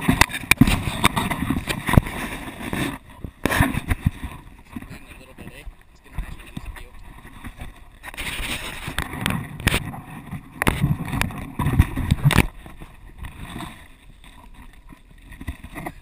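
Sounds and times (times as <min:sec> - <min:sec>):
low rumble of wind: 0:00.0 - 0:16.0
microphone handling knocks and rustles: 0:00.0 - 0:16.0
water: 0:00.0 - 0:16.0.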